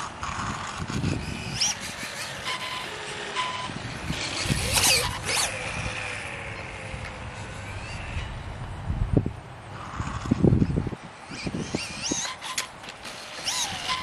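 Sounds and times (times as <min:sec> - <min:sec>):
toy dirt bike electric motor whining: 0:00.0 - 0:08.7, 0:09.7 - 0:14.0.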